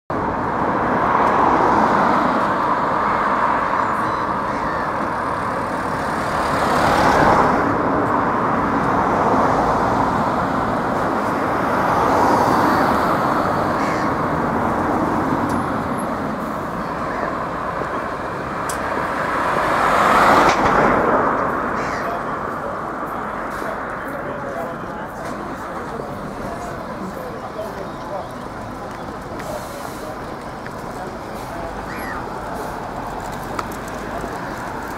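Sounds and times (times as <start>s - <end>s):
bus engines: 0.1s - 34.9s
road traffic: 0.1s - 34.9s.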